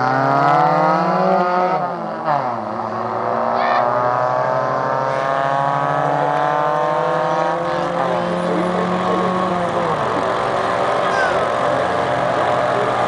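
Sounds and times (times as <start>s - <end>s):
drag racing car engines at full throttle: 0.0s - 13.0s.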